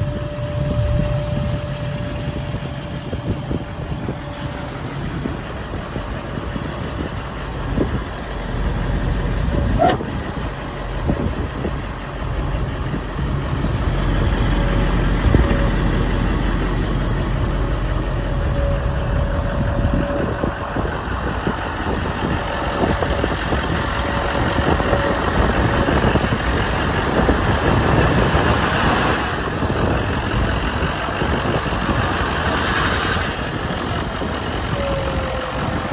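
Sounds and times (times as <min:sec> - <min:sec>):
pickup truck engine idling: 0:00.0 - 0:35.9.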